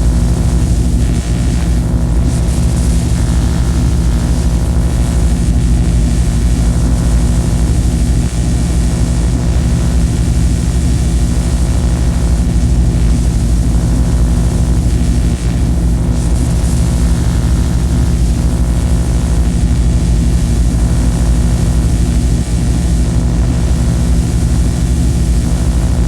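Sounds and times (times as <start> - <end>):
harsh noise drone music: 0.0 - 26.0.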